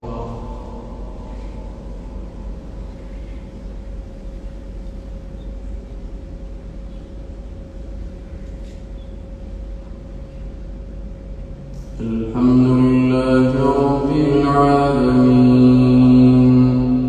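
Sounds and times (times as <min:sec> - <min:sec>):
room noise hum and hiss: 0:00.0 - 0:17.0.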